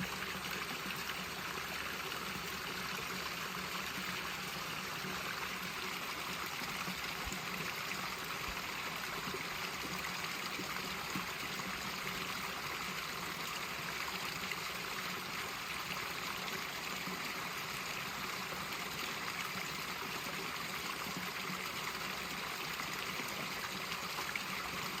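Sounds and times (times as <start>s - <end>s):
water trickling over rocks: 0.0s - 25.0s.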